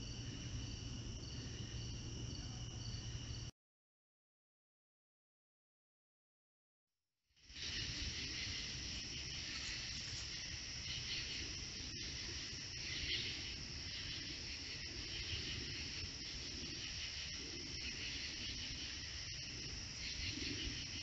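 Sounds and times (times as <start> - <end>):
night insects trilling: 0.0 - 3.5, 7.4 - 21.0.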